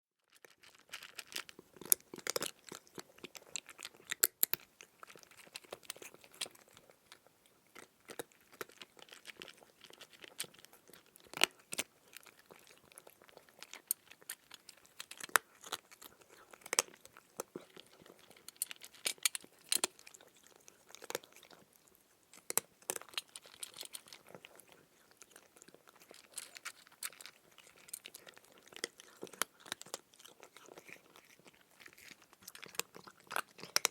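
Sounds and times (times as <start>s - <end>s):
cat crunching dry kibble: 0.3s - 33.9s.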